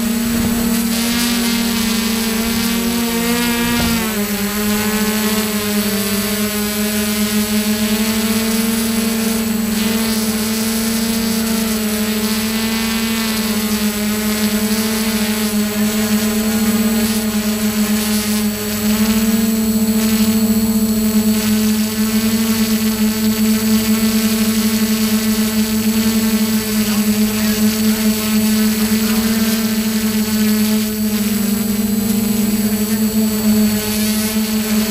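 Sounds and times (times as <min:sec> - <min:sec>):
drone propellers humming: 0:00.0 - 0:34.9.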